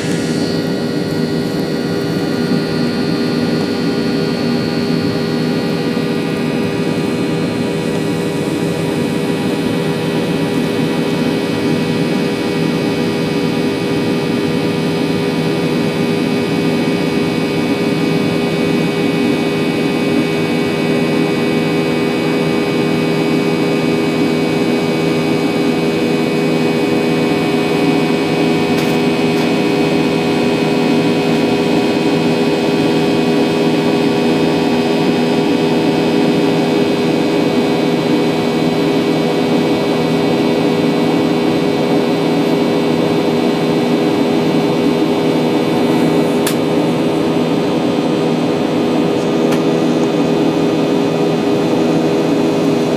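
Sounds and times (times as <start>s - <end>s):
jet engine hum in cabin: 0.0s - 52.9s.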